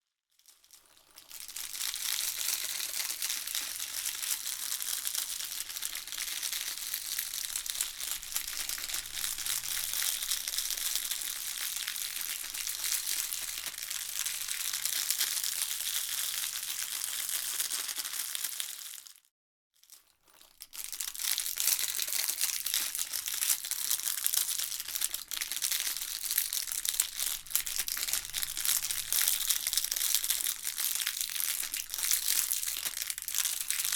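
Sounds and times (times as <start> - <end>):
candy wrapper crinkling: 0.5 - 33.9.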